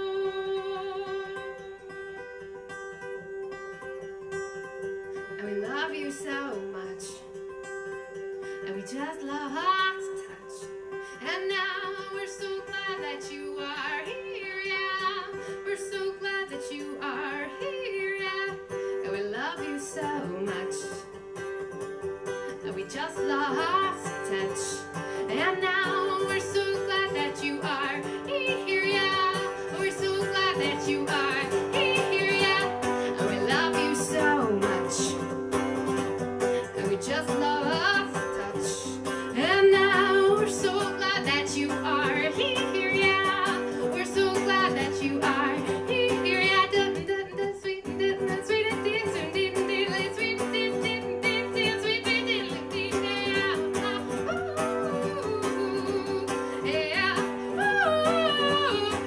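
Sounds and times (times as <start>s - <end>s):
woman singing: 0.0s - 2.4s, 5.0s - 7.6s, 8.4s - 21.3s, 22.2s - 59.0s
acoustic guitar chords: 0.0s - 59.0s.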